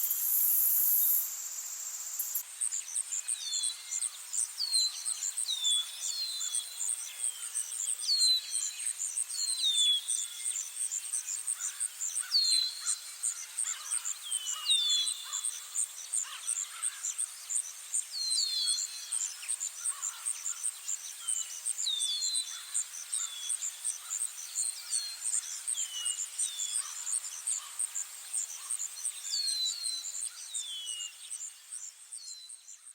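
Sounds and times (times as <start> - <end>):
insect trill: 0.0 - 4.5, 10.1 - 18.0, 18.6 - 32.8.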